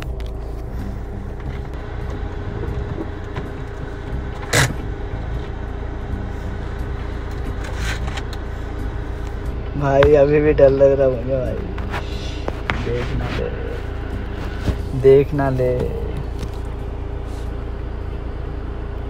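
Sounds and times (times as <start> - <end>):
rumble of passing vehicles: 0.0 - 19.0.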